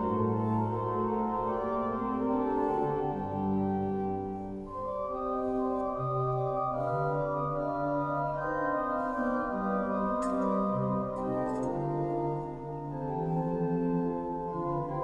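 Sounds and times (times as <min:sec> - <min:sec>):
church organ chords: 0:00.0 - 0:15.0.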